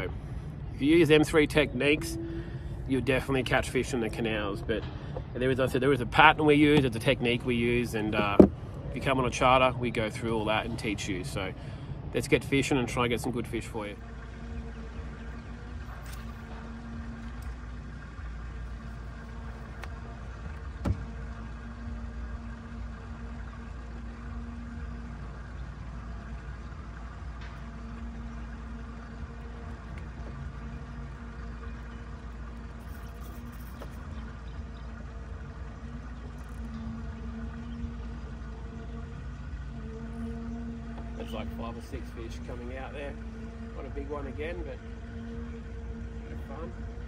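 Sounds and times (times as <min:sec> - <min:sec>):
boat motor humming: 0:00.0 - 0:47.0.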